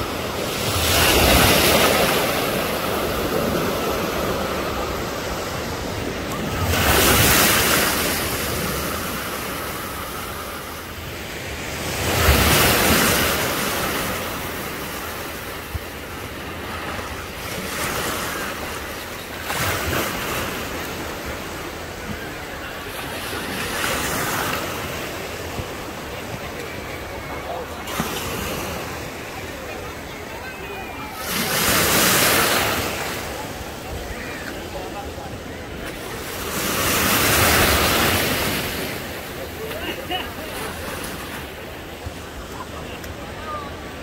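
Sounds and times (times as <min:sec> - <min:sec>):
waves breaking on beach: 0:00.0 - 0:44.0.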